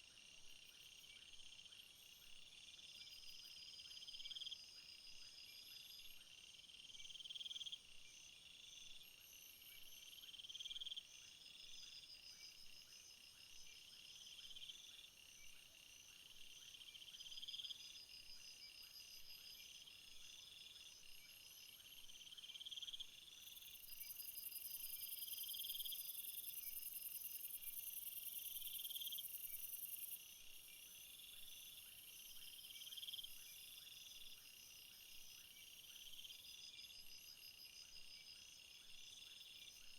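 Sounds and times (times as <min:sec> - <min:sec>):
crickets trilling and chirping: 0:00.1 - 0:39.9.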